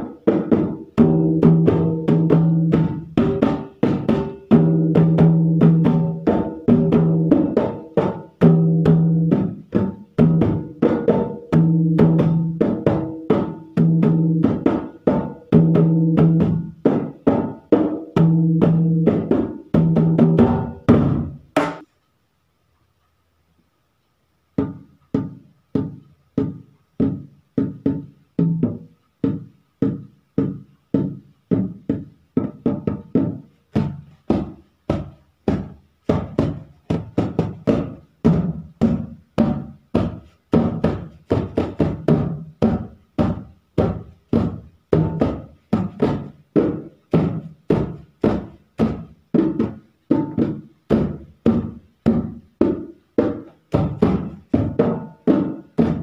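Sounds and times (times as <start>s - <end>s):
barrel drum played by hand: 0.0s - 21.9s, 24.6s - 56.0s.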